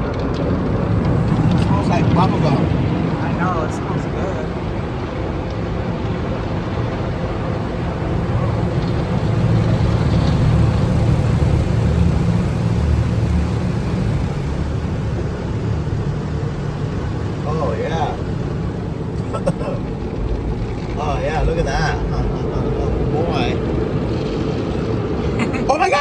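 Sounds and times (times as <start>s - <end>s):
car wash spray and machinery: 0.0s - 26.0s
heavy low rumble: 0.0s - 26.0s.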